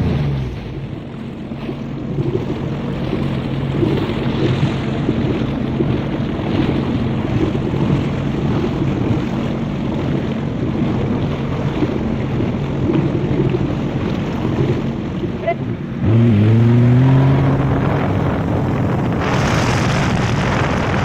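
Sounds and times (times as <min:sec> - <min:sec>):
jet ski engine running: 0:00.0 - 0:21.0
rushing water: 0:00.0 - 0:21.0
wind buffeting microphone: 0:00.0 - 0:21.0.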